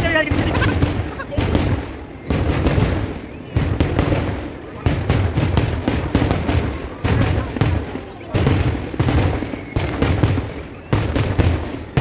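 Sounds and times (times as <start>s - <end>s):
fireworks explosions echoing: 0.0s - 12.0s.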